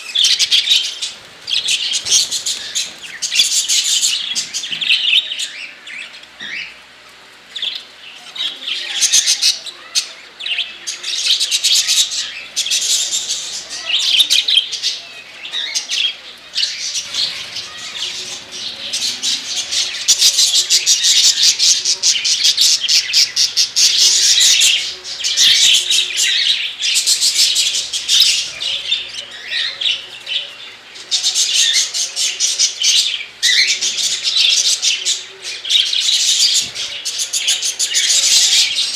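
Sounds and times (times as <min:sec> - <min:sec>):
budgerigars chirping: 0:00.0 - 0:06.8, 0:07.5 - 0:38.9.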